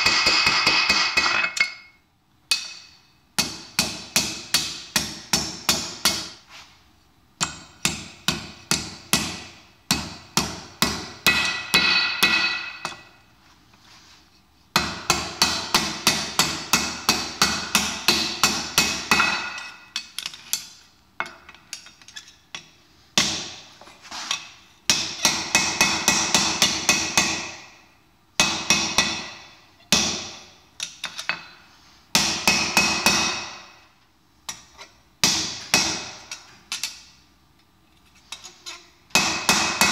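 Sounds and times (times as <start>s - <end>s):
hammer striking steel on anvil: 0.0s - 6.4s, 7.4s - 13.2s, 14.7s - 21.9s, 22.6s - 23.7s, 24.3s - 27.8s, 28.4s - 33.9s, 34.5s - 37.1s, 39.1s - 39.9s.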